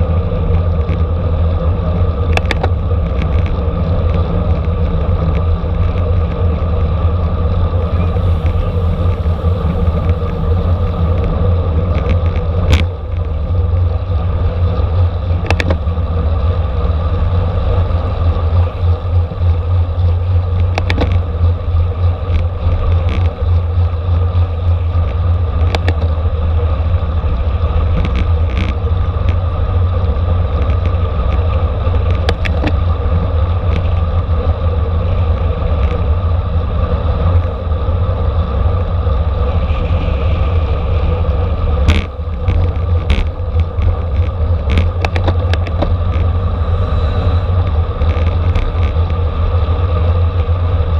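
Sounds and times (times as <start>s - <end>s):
tyres rumbling on road: 0.0s - 50.9s
wind rushing over microphone: 0.0s - 50.9s.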